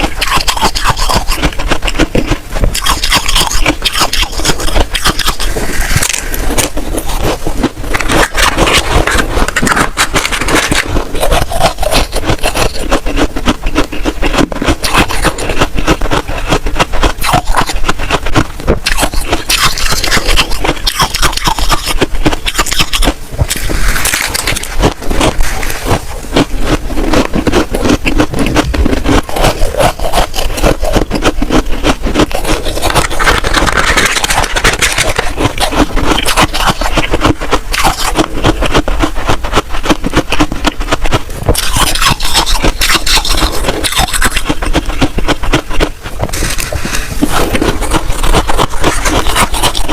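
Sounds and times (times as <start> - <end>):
frost being scraped: 0.0 - 49.9.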